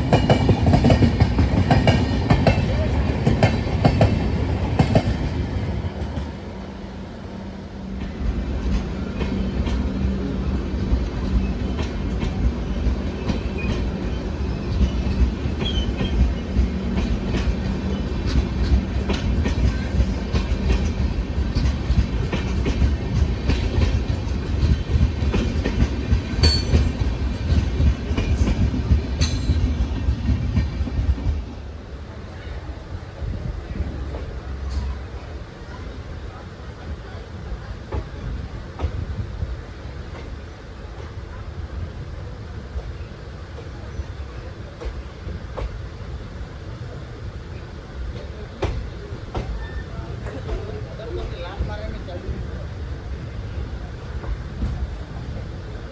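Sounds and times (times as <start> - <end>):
train rumbling on track: 0.0 - 55.9.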